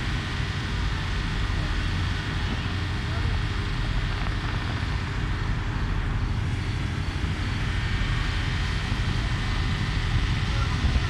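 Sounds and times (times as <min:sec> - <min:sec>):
distant fireworks rumble: 0:01.2 - 0:11.0.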